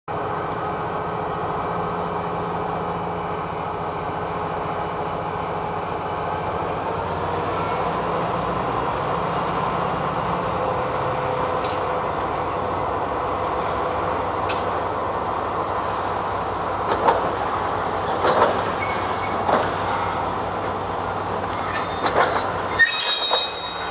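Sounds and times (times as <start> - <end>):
locomotive engine drone: 0.1 - 23.9.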